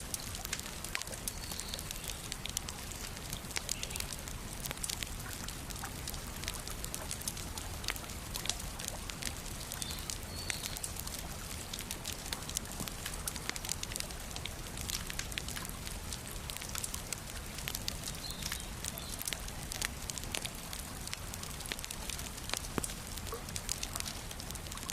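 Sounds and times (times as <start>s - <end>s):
bonfire crackling and popping: 0.0s - 24.9s.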